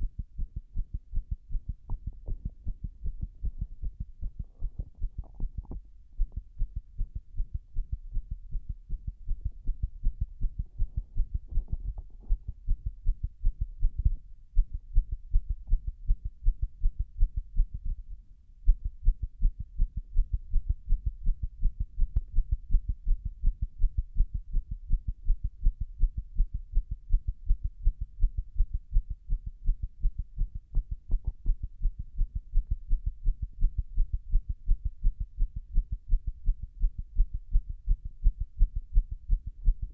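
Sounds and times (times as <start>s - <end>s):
rapid heartbeat thuds: 0.0s - 39.9s.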